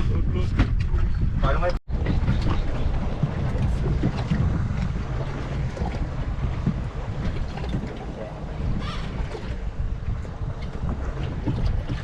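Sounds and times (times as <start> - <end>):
sea wash: 0.0 - 12.0
wind buffeting microphone: 0.0 - 12.0.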